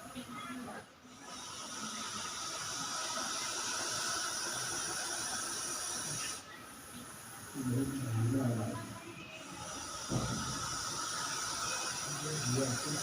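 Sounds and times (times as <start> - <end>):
snake hissing: 1.1 - 8.6, 9.5 - 13.0.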